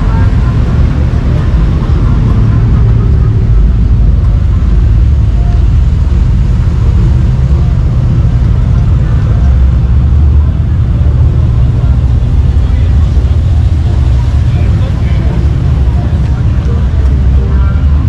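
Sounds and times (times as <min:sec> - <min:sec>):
faint voices: 0:00.0 - 0:18.0
vehicle engine rumbling: 0:00.0 - 0:18.0.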